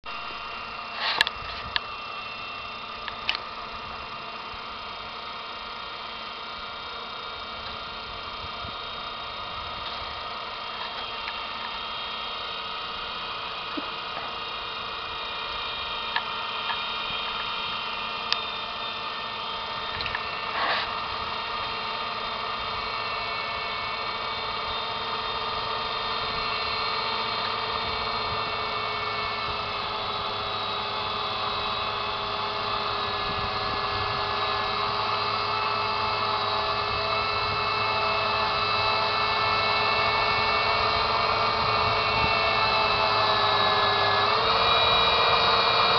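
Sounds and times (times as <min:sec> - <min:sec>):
tractor diesel engine droning: 0:00.0 - 0:45.9.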